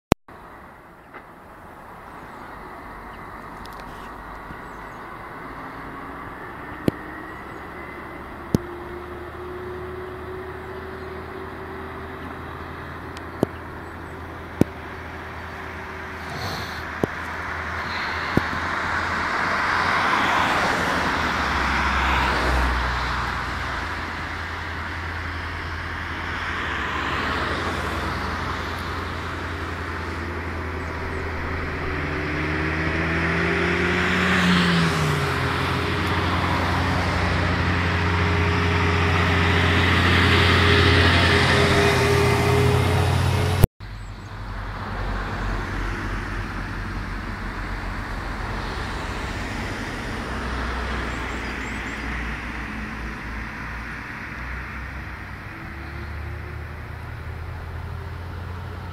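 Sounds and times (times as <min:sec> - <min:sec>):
truck engine drone: 0:00.3 - 0:58.9
cars passing: 0:00.4 - 0:58.9.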